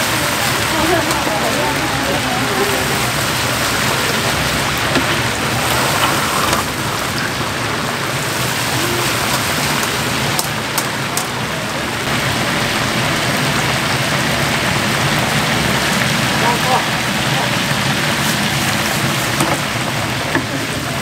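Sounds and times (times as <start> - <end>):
oil sizzling in deep fryer: 0.0 - 21.0.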